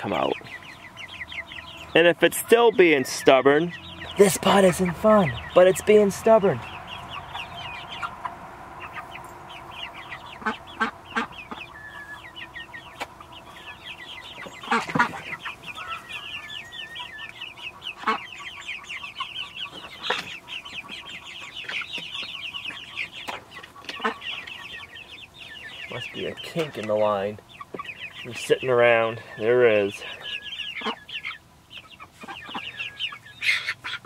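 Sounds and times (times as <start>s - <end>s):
chicks peeping: 0.0s - 34.0s.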